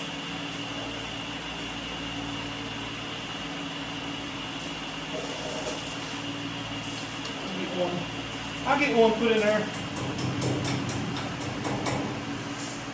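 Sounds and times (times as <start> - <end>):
mechanical hum with high whine: 0.0 - 12.9.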